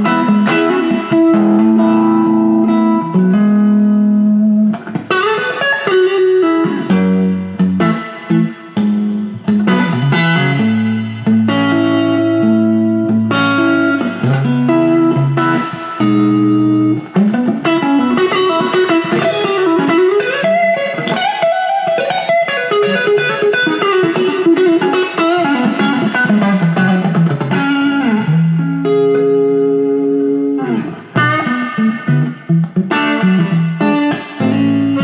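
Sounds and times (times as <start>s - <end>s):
electric guitar chords: 0.0s - 35.0s
electric guitar lead lines: 0.0s - 35.0s.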